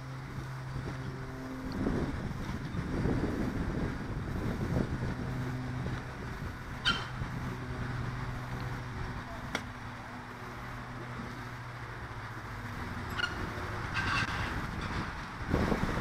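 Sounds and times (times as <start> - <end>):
low mechanical hum: 0.0 - 16.0
wind noise on microphone: 0.0 - 16.0.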